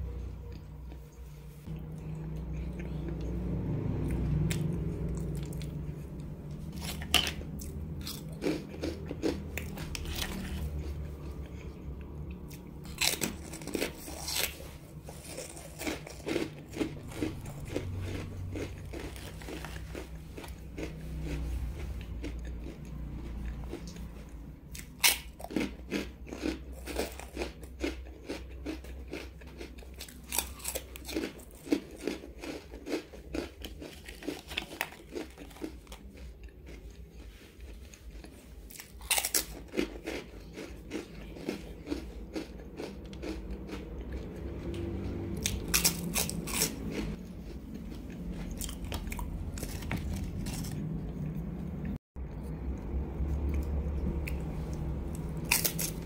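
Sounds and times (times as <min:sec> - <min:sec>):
crunching rice crackers: 0:03.9 - 0:51.2, 0:52.6 - 0:56.0.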